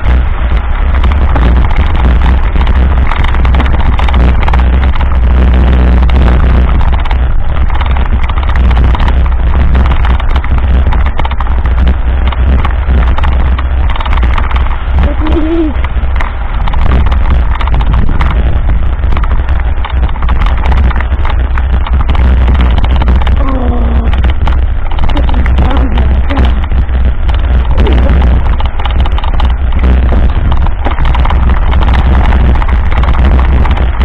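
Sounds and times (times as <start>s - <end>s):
bike rattling on rough road: 0.0s - 34.0s
wind buffeting microphone: 0.0s - 34.0s.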